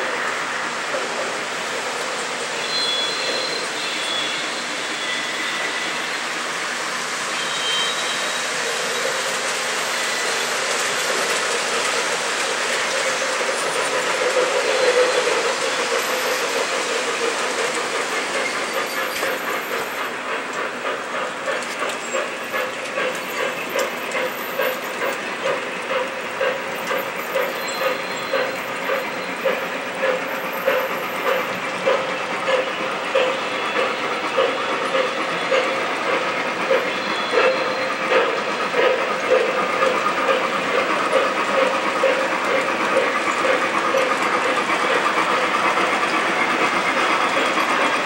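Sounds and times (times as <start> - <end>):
model steam locomotive chuffing beat: 0.0 - 48.0
model train wheels rumbling on rails: 0.0 - 48.0.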